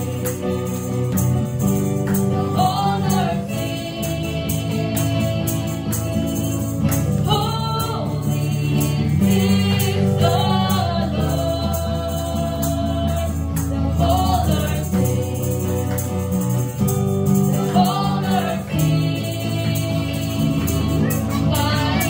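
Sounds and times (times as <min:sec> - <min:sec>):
acoustic guitar: 0:00.0 - 0:22.0
keyboard chords: 0:00.0 - 0:22.0.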